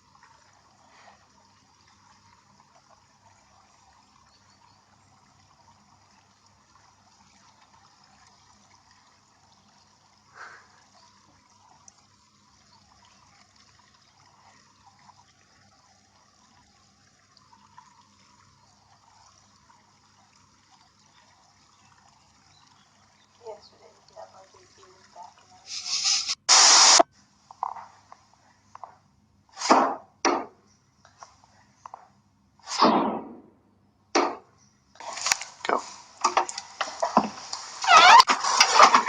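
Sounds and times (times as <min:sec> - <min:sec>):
faint steady hiss: 0:00.0 - 0:32.8, 0:33.6 - 0:39.0.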